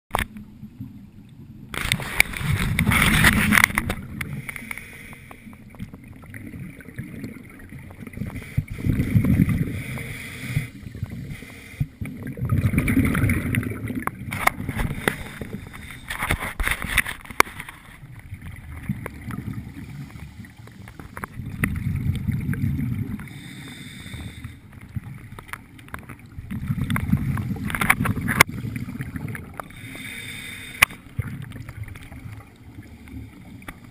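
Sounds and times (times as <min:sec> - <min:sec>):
exhaled bubbles underwater: 0:00.4 - 0:16.4, 0:18.0 - 0:33.9.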